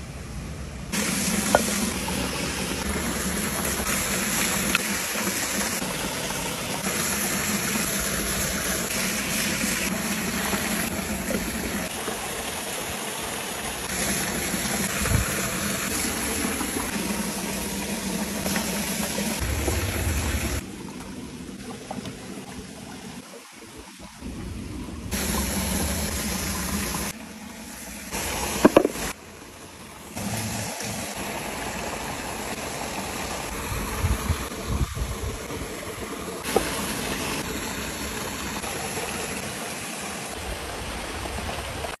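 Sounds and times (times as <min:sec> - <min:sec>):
stream running: 0:00.0 - 0:42.0.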